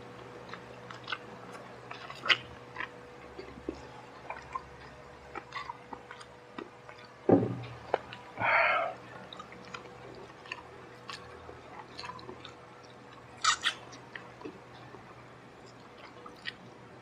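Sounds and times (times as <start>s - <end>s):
person chewing: 0.4s - 14.9s, 15.6s - 16.7s.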